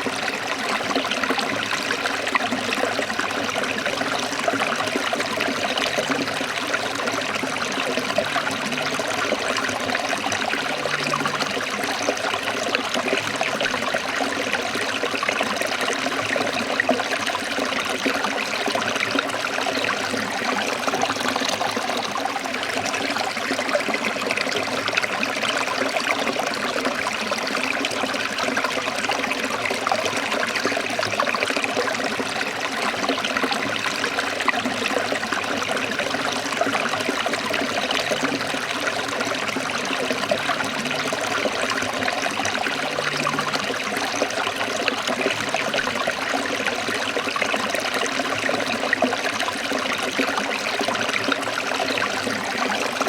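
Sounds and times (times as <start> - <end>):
stream splashing over rocks: 0.0 - 53.0.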